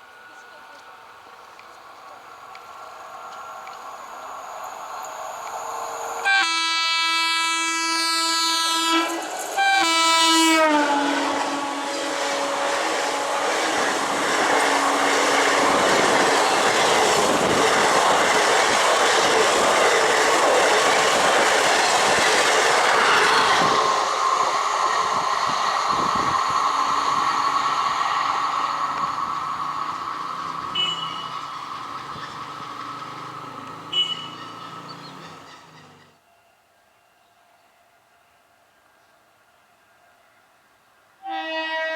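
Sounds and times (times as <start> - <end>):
train wheels rushing on rails: 0.0 - 36.2.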